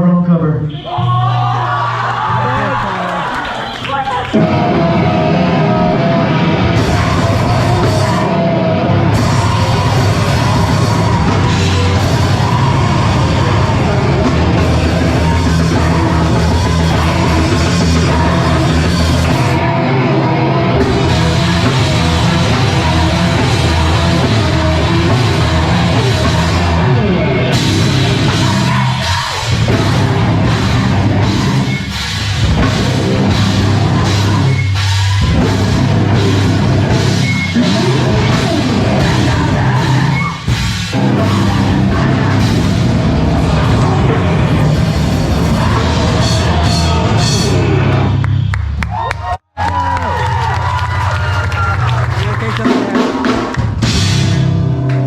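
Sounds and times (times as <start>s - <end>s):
rock band playing live: 4.2s - 48.5s, 49.8s - 55.0s
drum kit pounding: 4.3s - 55.0s.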